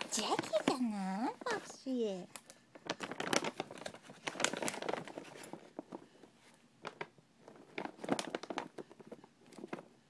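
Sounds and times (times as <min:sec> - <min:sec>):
crinkling rustles: 0:00.0 - 0:10.0.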